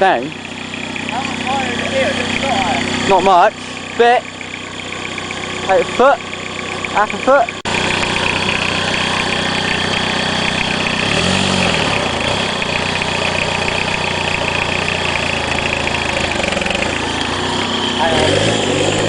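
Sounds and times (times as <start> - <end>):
diesel engine idling and revving: 0.0 - 19.0.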